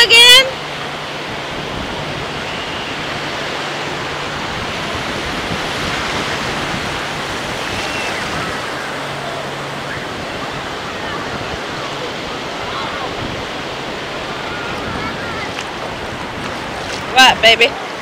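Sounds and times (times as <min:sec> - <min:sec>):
ocean surf washing up beach: 0:00.0 - 0:18.0.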